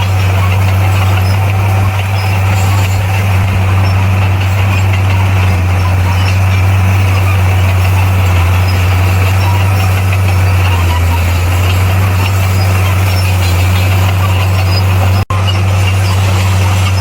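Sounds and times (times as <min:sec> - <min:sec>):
diesel engine running steadily: 0:00.0 - 0:17.0.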